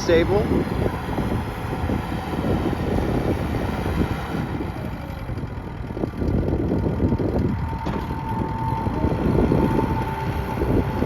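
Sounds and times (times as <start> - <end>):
diesel engine idling: 0.0 - 11.0
wind buffeting the microphone: 0.0 - 11.0.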